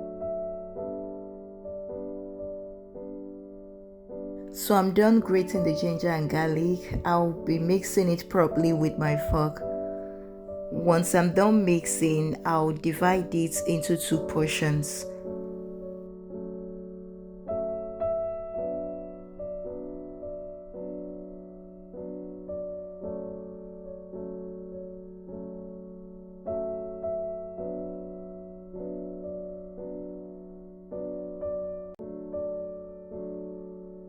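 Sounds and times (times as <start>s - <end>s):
slow piano melody: 0.0s - 34.0s.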